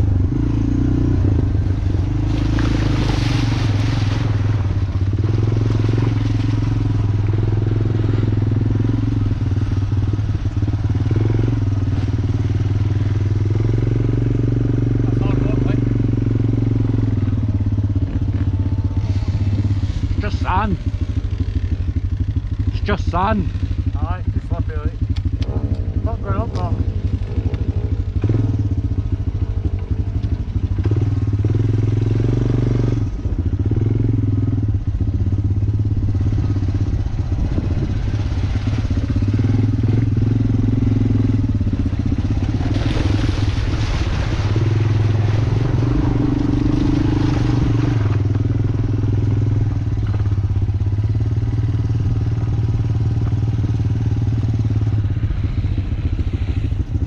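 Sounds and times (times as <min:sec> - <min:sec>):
off-road motorcycle engine revving: 0:00.0 - 0:57.0.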